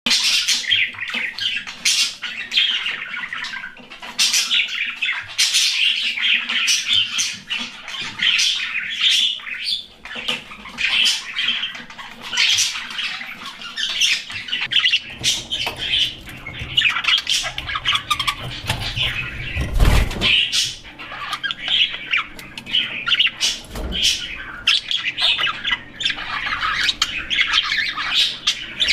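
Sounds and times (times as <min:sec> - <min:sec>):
parrots calling: 0:00.1 - 0:28.9.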